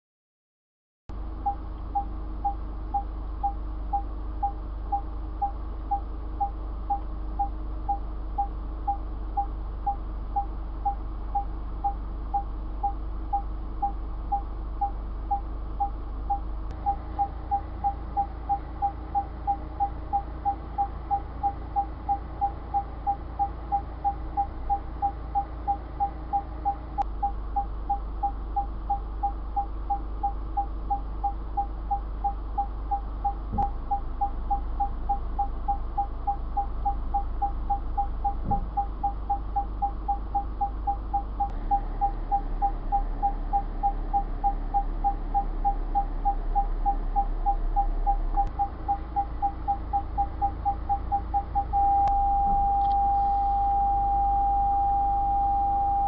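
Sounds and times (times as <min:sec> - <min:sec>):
parking sensor beeping: 0:01.1 - 0:56.0
steady low hum: 0:01.1 - 0:56.0.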